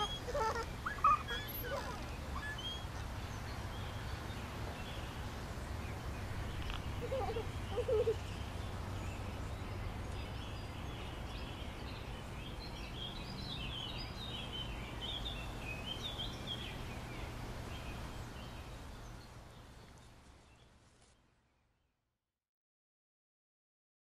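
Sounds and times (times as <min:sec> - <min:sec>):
small birds chirping: 0:00.0 - 0:21.2.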